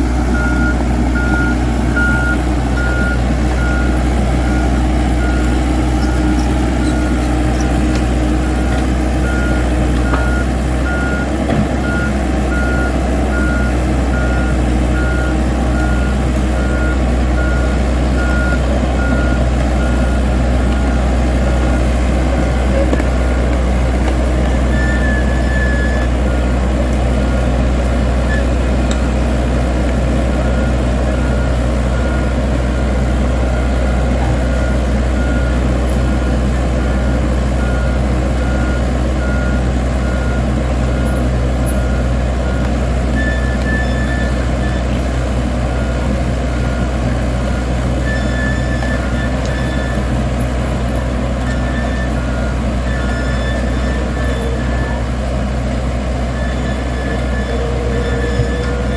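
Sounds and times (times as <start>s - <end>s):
reversing beeper beeping: 0.0s - 23.5s, 24.5s - 26.6s, 30.4s - 45.0s, 45.7s - 50.2s, 50.9s - 55.3s, 56.3s - 58.9s
dump truck engine running: 0.0s - 58.9s.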